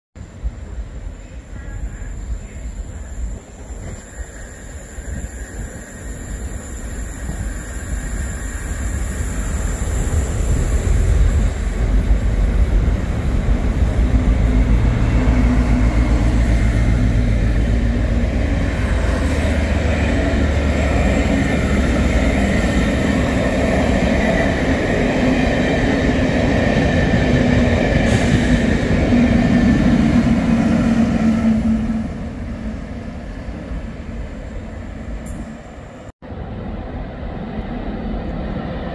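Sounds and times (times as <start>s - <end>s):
diesel locomotive engine: 0.2s - 38.9s
train wheels rumbling on rails: 0.2s - 38.9s.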